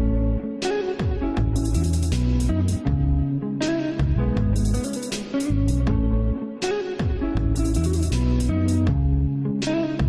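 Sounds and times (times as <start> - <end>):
chill instrumental guitar music: 0.0 - 10.0.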